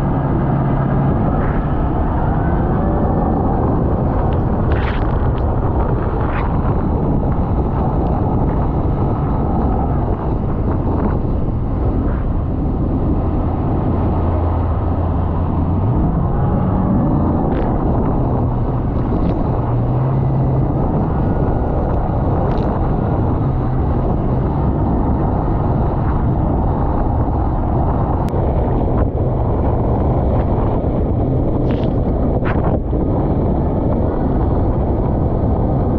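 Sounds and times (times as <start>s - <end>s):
wind rush on microphone: 0.0s - 35.9s.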